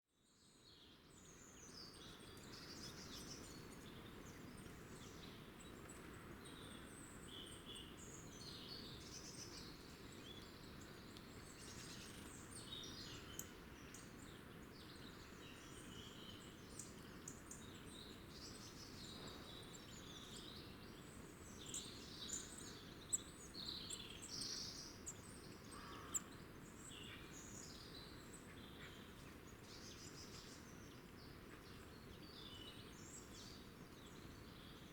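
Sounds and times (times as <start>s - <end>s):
small birds chirping: 0.4s - 34.9s.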